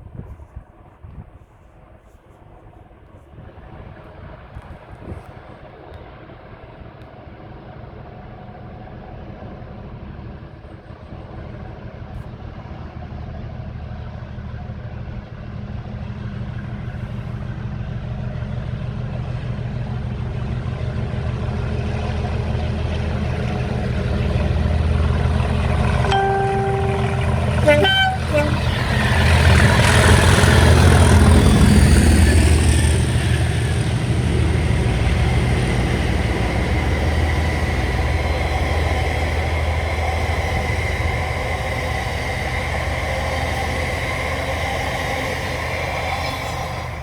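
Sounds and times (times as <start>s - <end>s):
diesel locomotive working hard: 5.6s - 47.0s.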